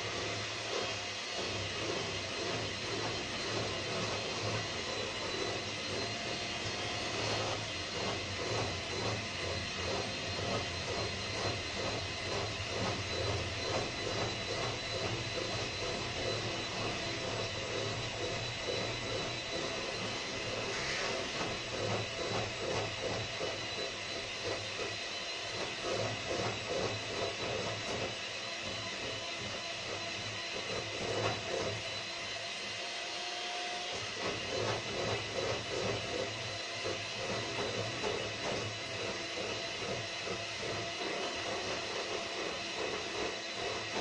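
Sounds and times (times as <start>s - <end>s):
electric mixer whisking batter: 0.0s - 44.0s.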